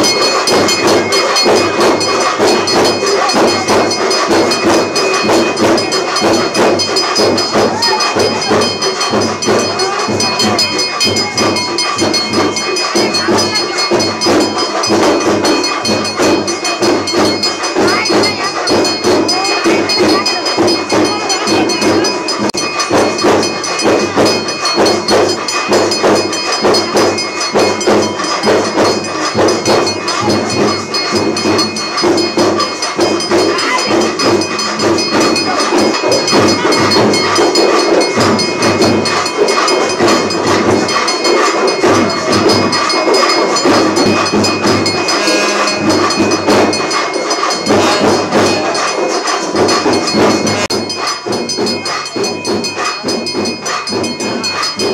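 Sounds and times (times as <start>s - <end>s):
rhythmic drumming: 0.0s - 54.9s
ringing bells: 0.0s - 54.9s.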